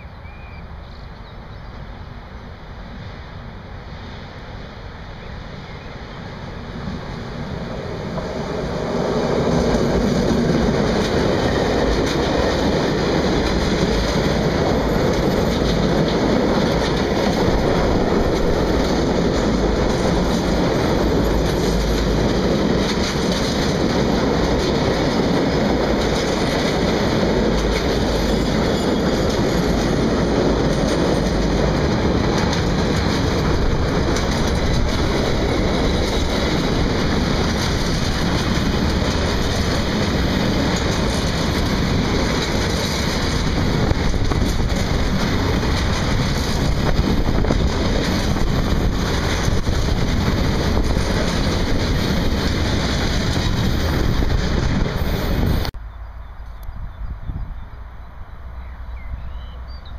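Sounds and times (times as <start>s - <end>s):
diesel locomotive passing: 0.0s - 59.9s
wheel on rail rumble: 5.7s - 55.8s
wheels clicking over rail joints: 7.6s - 55.7s.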